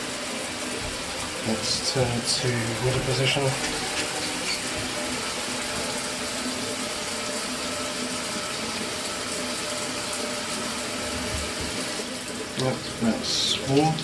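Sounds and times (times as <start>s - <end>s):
faint shower unit hum: 0.0s - 14.0s
shower water flowing: 0.0s - 14.0s.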